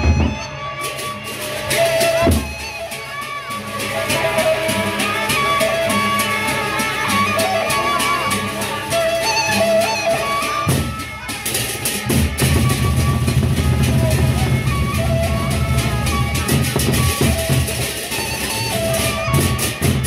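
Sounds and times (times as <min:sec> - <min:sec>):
high wavering melody: 0:00.0 - 0:20.0
barrel drums beaten: 0:01.1 - 0:09.4, 0:10.3 - 0:20.0.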